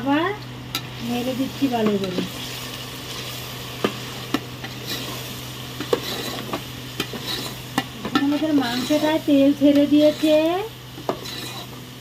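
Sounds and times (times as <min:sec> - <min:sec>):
chicken sizzling in hot oil: 0:00.8 - 0:12.0.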